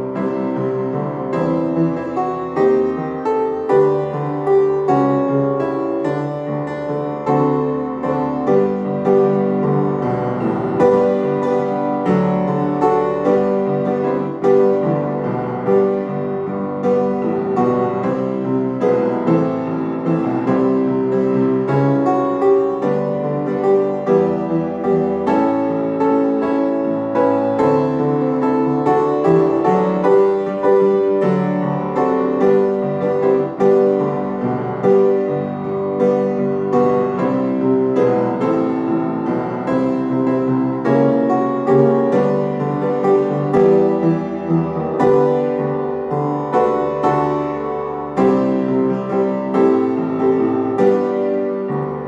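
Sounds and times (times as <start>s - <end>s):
piano piece: 0.0s - 52.0s.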